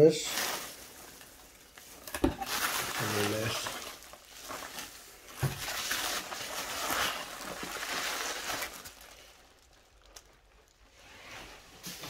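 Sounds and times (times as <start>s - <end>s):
packing material rustling: 0.0s - 12.0s.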